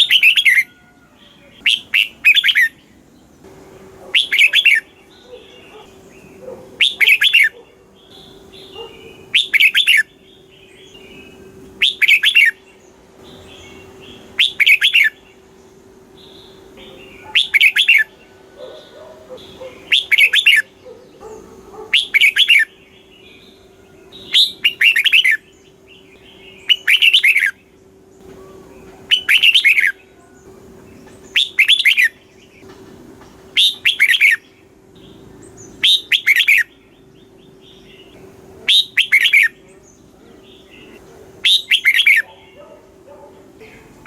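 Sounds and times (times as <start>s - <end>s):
bulbul singing: 0.0s - 44.0s
faint steady hum: 0.0s - 44.0s.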